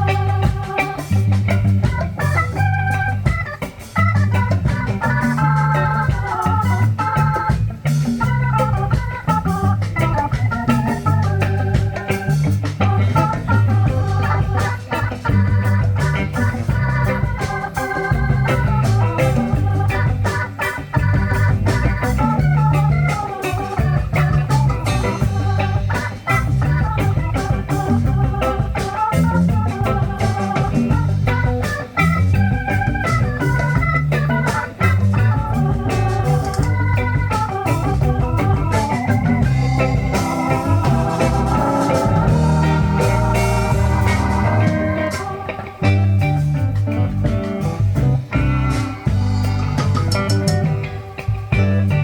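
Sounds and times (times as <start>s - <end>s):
bass: 0.0s - 52.0s
drums: 0.0s - 52.0s
organ lead: 0.0s - 52.0s.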